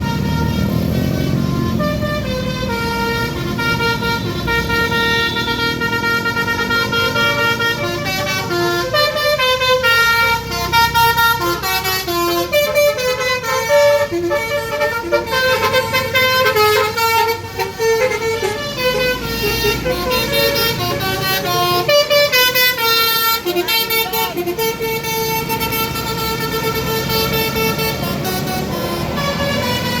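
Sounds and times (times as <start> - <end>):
low engine rumble: 0.0 - 30.0
musical bus horns playing tunes: 0.0 - 30.0.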